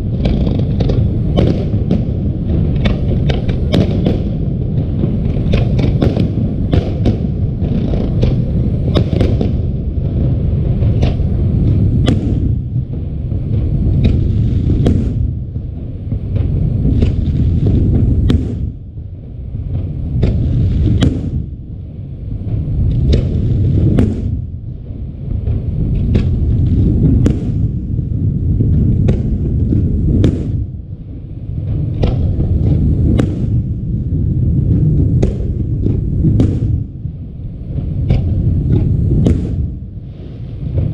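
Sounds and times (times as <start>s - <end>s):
fireworks bangs and cracks: 0.0s - 40.9s
heavy low rumble: 0.0s - 40.9s.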